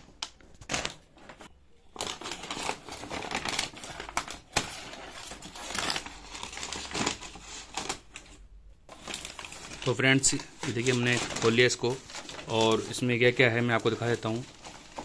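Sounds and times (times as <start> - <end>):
paper crinkling: 0.0 - 15.0.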